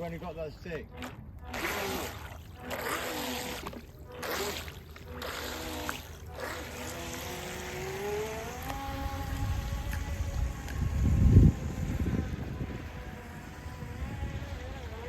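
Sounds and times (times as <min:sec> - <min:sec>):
electric boat motor whining: 0:00.0 - 0:15.0.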